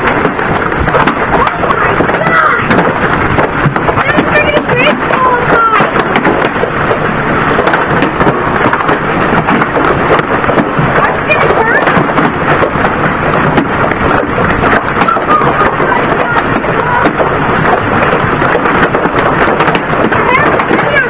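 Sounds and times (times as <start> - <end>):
heavy hail clattering: 0.0 - 21.0.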